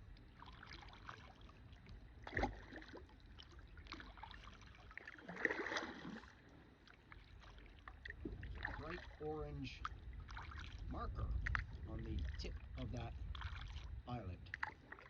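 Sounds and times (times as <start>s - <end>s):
paddle strokes in water: 0.0s - 15.0s
water dripping off paddle: 0.1s - 15.0s.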